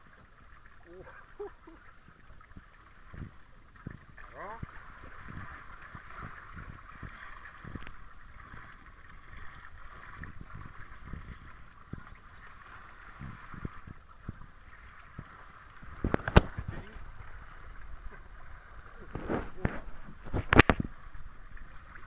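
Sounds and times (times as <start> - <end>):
water sloshing around boat: 0.0 - 22.0.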